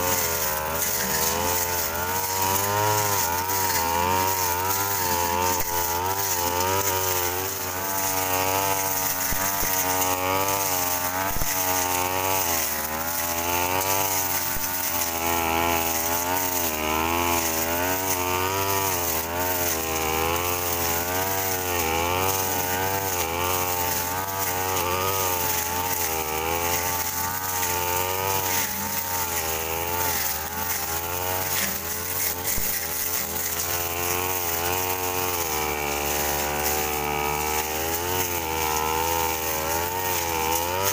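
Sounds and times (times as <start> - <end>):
brush cutter engine slashing weeds: 0.0 - 40.9.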